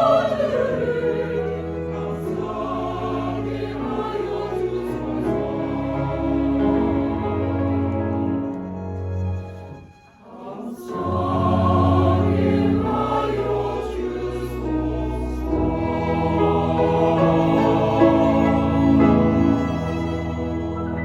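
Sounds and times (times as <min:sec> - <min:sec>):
choir singing in harmony: 0:00.0 - 0:09.0, 0:09.7 - 0:21.0.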